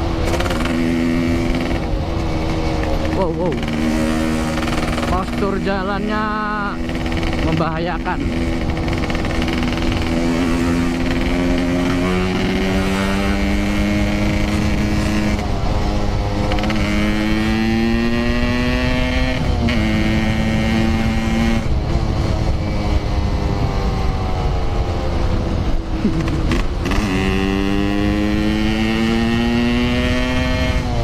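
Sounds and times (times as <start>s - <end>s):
motorcycle engine accelerating: 0.0s - 31.0s
wind and road rush: 0.0s - 31.0s.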